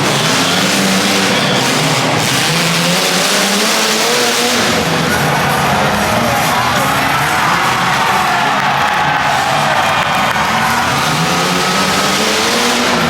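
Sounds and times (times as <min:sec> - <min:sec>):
car engines revving loudly: 0:00.0 - 0:13.0.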